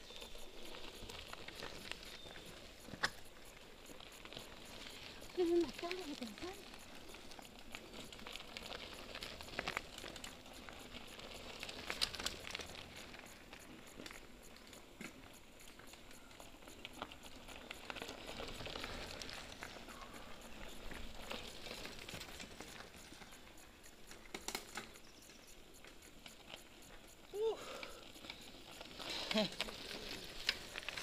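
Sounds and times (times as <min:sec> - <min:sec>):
bike tyres crunching on gravel: 0:00.0 - 0:31.0
small clicks and rattles: 0:00.0 - 0:31.0.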